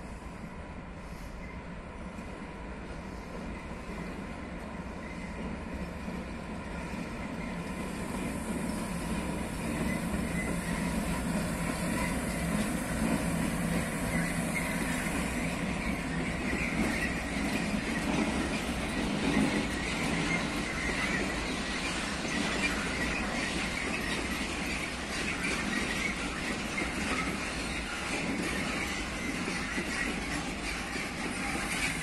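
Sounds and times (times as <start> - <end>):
freight train passing slowly: 0.0 - 32.0.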